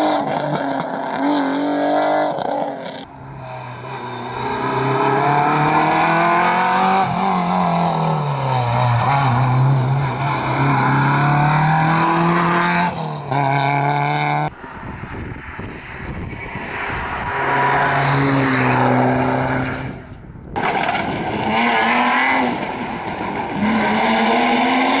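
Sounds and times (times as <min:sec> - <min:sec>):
rally car engine accelerating: 0:00.0 - 0:20.0.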